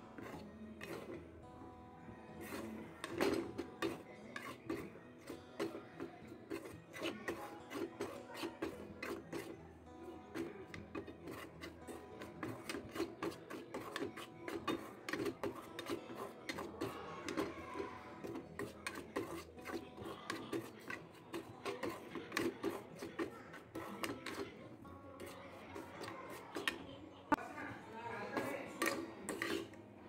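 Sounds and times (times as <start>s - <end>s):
metal spatula scraping a pan: 0.0s - 1.5s, 2.1s - 27.0s, 28.2s - 29.9s.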